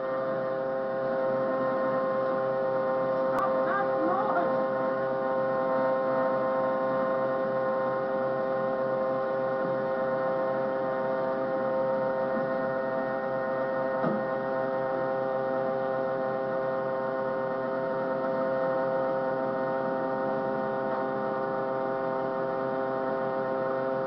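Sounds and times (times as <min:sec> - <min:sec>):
steady tonal hum: 0:00.0 - 0:23.7.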